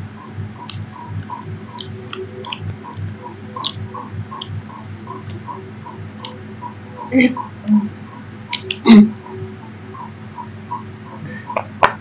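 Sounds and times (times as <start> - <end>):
steady fast ticking: 0.2 - 11.8.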